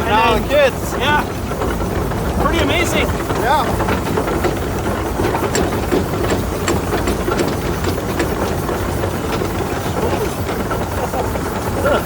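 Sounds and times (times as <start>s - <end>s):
faint clicks and rattles: 0.0s - 12.0s
tractor engine humming: 0.0s - 12.0s.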